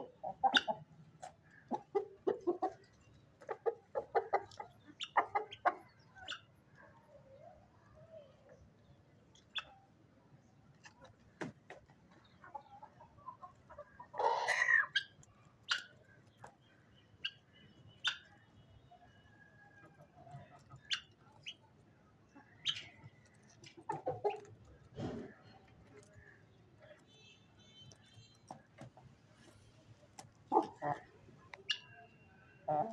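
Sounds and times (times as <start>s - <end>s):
chickens clucking: 0.0s - 7.0s, 9.3s - 10.0s, 10.7s - 18.5s, 19.7s - 26.4s, 27.9s - 32.9s.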